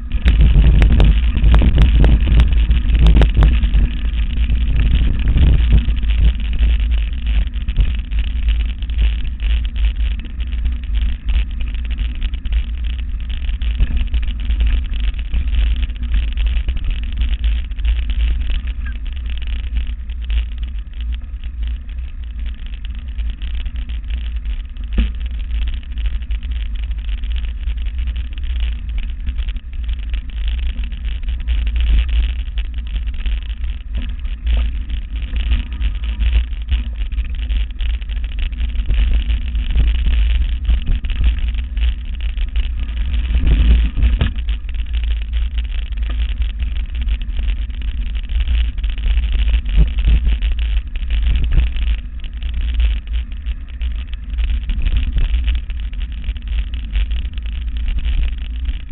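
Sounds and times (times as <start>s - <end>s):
bike knocks and rattles: 0.0s - 58.9s
wind and vibration rumble: 0.0s - 58.9s.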